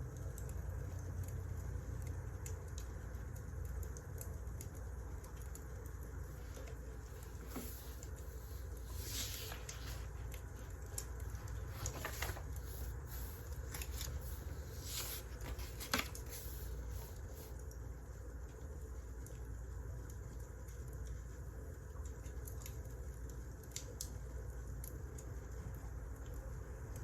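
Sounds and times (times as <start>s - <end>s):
fire snaps and pops: 0.0s - 27.0s
wood fire crackling: 0.0s - 27.0s.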